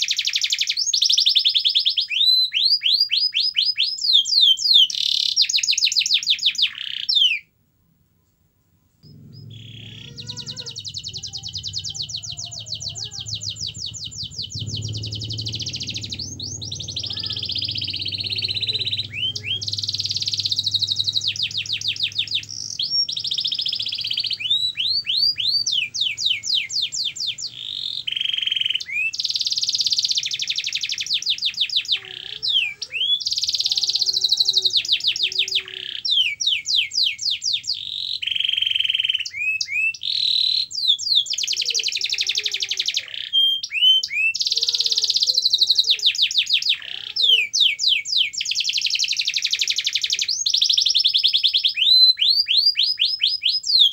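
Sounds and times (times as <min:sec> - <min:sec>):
canary singing: 0:00.0 - 0:07.5, 0:09.0 - 0:53.9.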